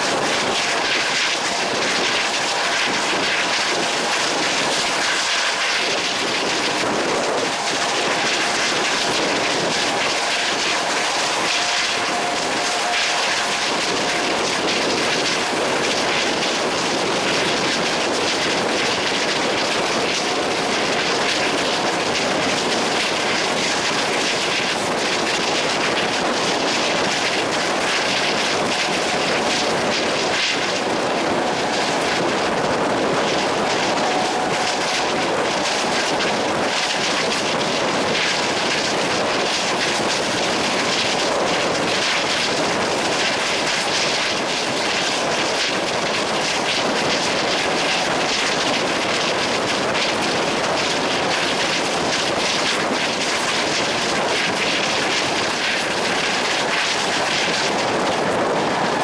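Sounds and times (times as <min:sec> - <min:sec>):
moving train rushing roar: 0:00.0 - 0:59.0.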